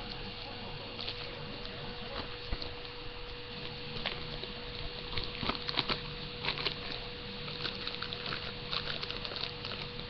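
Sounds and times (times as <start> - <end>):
faint electrical hum: 0.0 - 10.0
plastic bag crinkling: 0.9 - 10.0.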